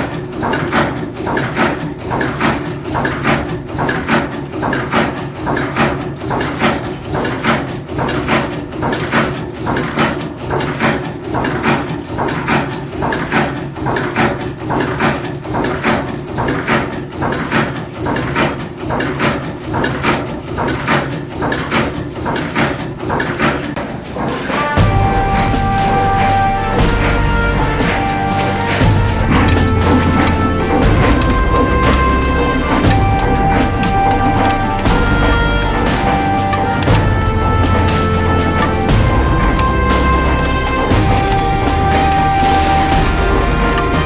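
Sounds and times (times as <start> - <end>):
machine punch striking: 0.0 - 44.0
steady machine hum: 0.0 - 44.0.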